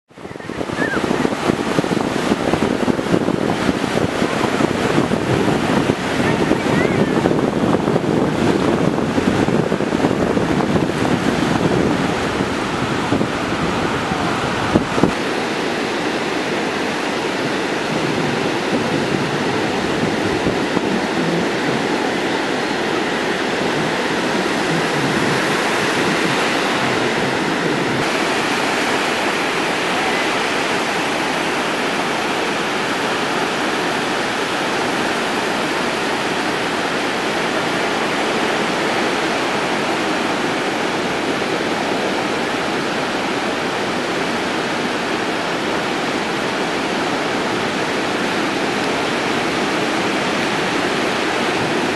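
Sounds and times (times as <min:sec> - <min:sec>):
ocean surf breaking: 0:00.1 - 0:51.9
wind buffeting microphone: 0:00.1 - 0:51.9.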